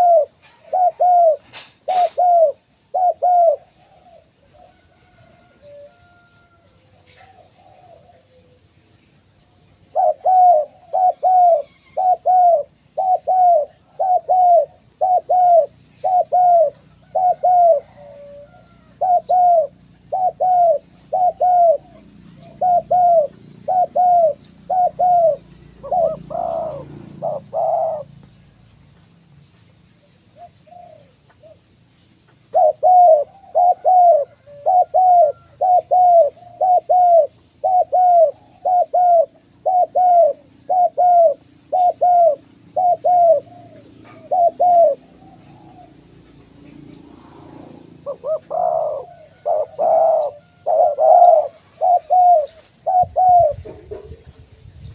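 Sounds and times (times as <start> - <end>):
dove cooing: 0.0 - 28.6, 29.9 - 54.9.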